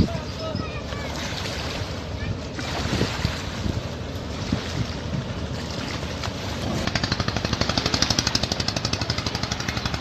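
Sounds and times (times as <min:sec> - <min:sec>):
boat engine chugging: 0:00.0 - 0:10.0.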